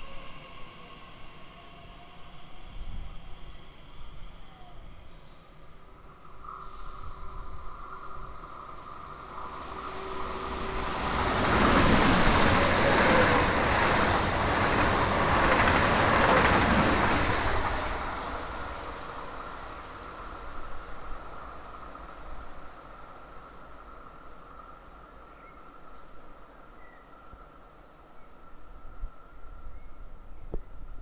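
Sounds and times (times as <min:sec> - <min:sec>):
high-speed train passing: 0:00.0 - 0:26.9.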